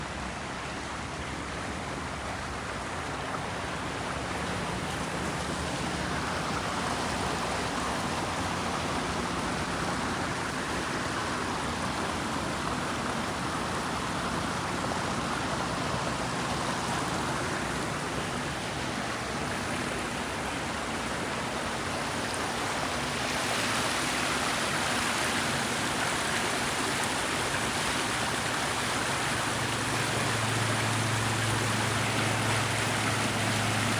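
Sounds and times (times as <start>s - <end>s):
brook water babbling: 0.0s - 33.9s.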